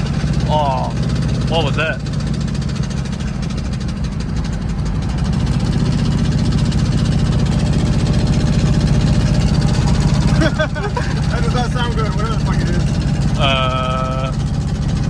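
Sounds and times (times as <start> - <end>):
car engine running: 0.0 - 15.0
rapid clanking knock in engine: 0.0 - 15.0.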